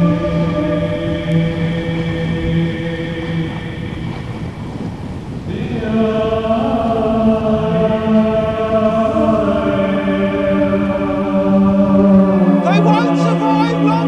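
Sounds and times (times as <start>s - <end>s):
droning chord music: 0.0s - 14.0s.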